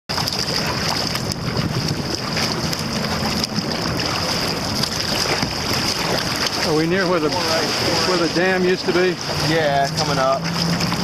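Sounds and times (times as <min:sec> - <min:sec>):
paddle stroke splashes: 0:00.1 - 0:11.0
water rushing along kayak hull: 0:00.1 - 0:11.0
wind buffeting microphone: 0:00.1 - 0:11.0.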